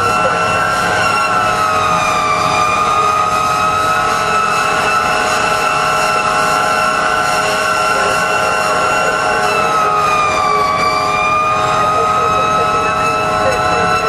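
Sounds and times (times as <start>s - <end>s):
fire engine siren: 0.0s - 14.0s
truck engine: 0.0s - 14.0s.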